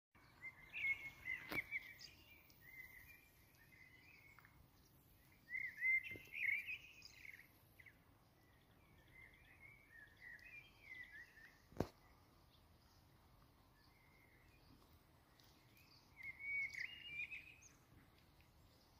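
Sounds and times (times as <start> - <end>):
songbird twittering: 0.2 - 13.0, 15.4 - 18.9
faint outdoor hiss: 0.2 - 18.9.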